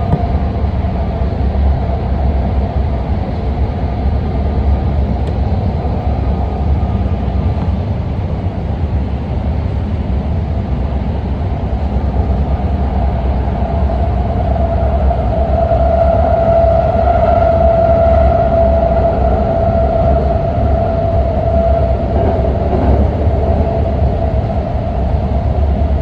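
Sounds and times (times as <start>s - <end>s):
train running at speed: 0.0s - 26.0s.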